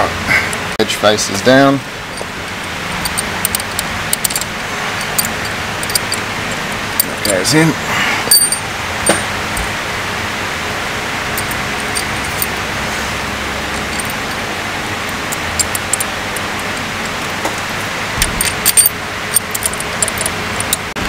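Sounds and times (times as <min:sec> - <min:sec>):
metal bolts and washers clinking: 0:01.3 - 0:09.8, 0:11.3 - 0:21.0.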